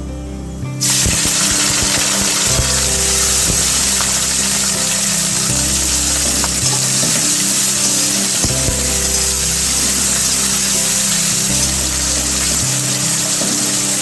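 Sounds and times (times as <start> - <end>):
onions sizzling in oil: 0.8 - 14.0.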